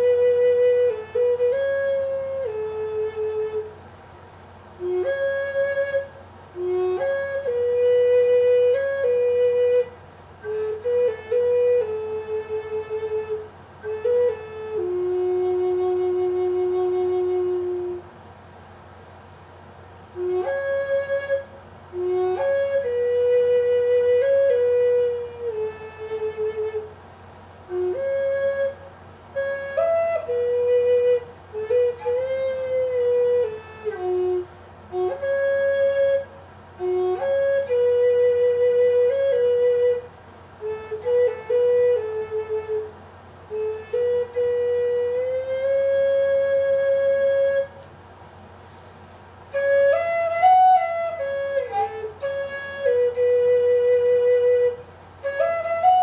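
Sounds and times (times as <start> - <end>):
flute melody: 0.0 - 3.8, 4.8 - 18.2, 20.0 - 27.0, 27.6 - 47.9, 49.5 - 56.0.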